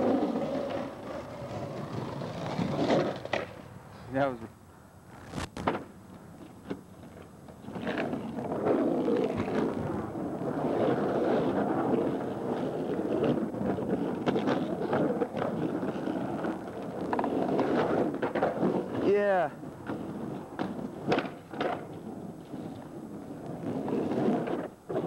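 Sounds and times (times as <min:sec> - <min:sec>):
skateboard clacks: 0:00.0 - 0:03.6, 0:05.6 - 0:25.0
skateboard wheels rolling on concrete: 0:00.0 - 0:25.0.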